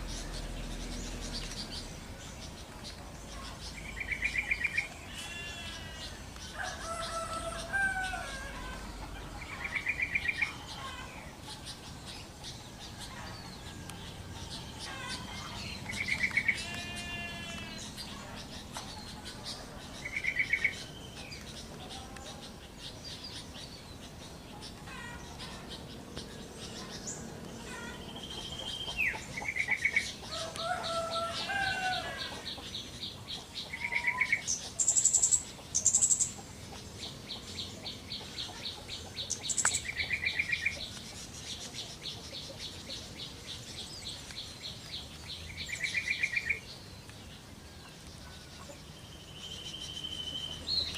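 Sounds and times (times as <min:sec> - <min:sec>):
bulbul singing: 0:00.0 - 0:50.9
other birds calling: 0:00.0 - 0:50.9.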